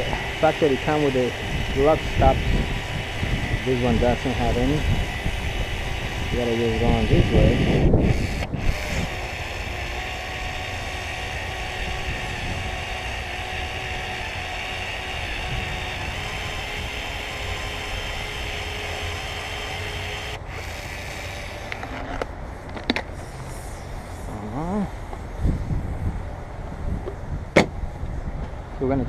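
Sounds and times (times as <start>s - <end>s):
faint steady whine: 0.0s - 29.0s
mechanical hum: 0.0s - 29.0s.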